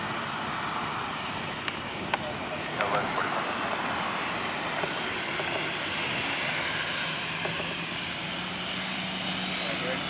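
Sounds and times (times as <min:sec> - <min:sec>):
jet engines at high power: 0:00.0 - 0:10.0.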